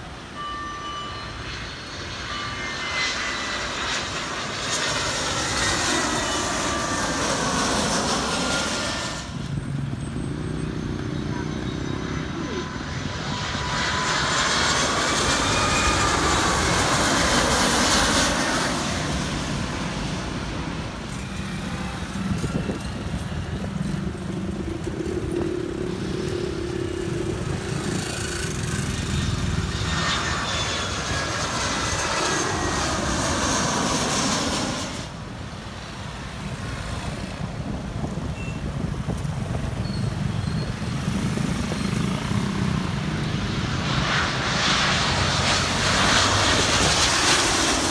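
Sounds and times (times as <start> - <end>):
jet engines roaring overhead: 0.0 - 47.9
road traffic rumbling: 1.2 - 47.9.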